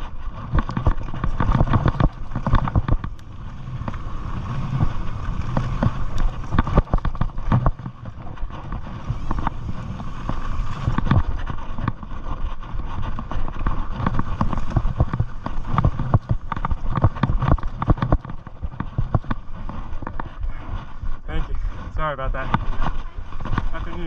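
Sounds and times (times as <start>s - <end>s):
bike frame knocking and rattling: 0.0s - 20.4s
bike tyres crunching over stones: 0.0s - 24.0s
wind rumble on microphone: 0.0s - 24.0s.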